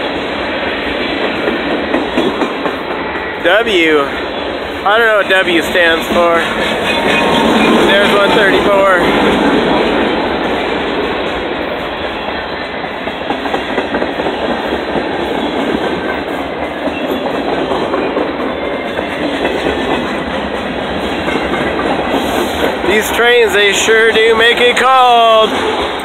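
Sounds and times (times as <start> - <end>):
steel train wheels on rails: 0.0 - 26.0.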